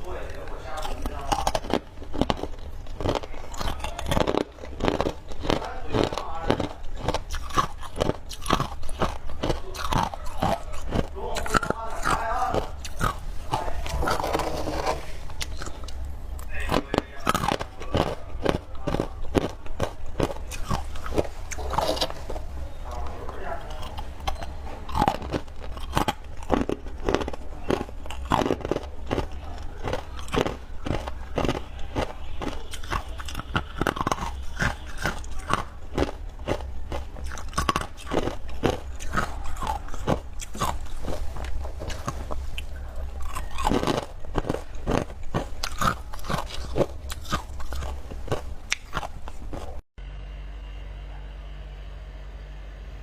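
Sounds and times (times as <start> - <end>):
crunching: 0.0 - 49.8
low hum: 9.2 - 53.0.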